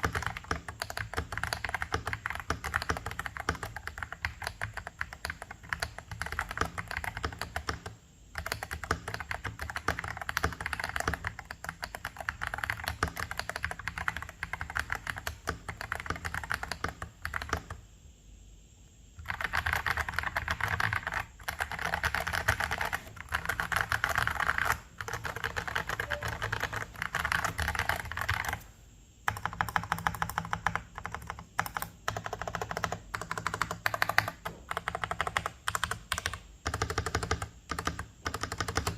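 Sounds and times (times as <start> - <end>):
fast typing on mechanical keyboard: 0.0 - 17.8, 19.2 - 38.9.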